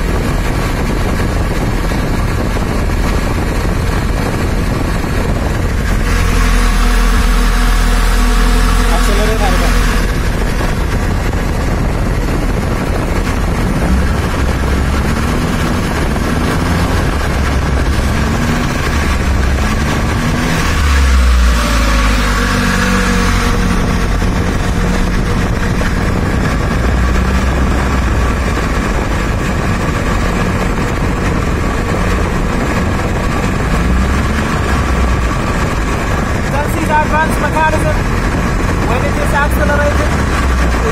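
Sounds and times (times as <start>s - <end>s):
petrol engine idling: 0.0s - 40.9s.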